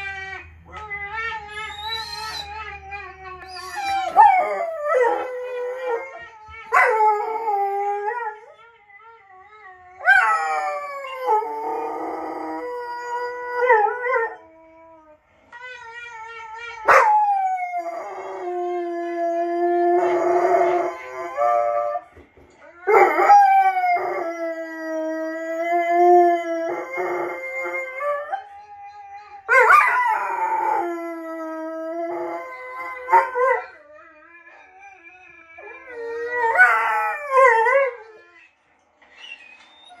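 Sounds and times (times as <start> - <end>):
dogs howling: 1.4 - 8.6, 9.8 - 14.6, 16.8 - 22.1, 22.8 - 38.5.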